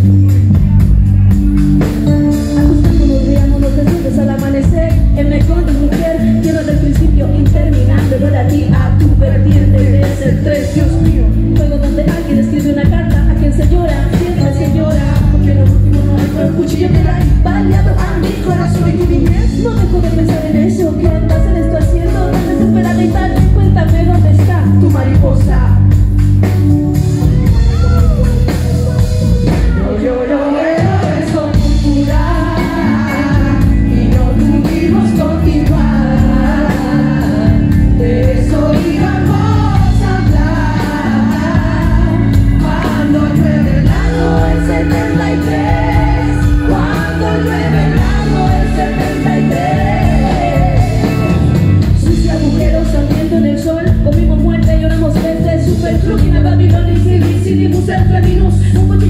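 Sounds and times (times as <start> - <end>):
drums: 0.0 - 59.0
electric bass guitar: 0.0 - 59.0
keyboards: 0.0 - 59.0
women singing: 2.0 - 25.9, 27.7 - 59.0.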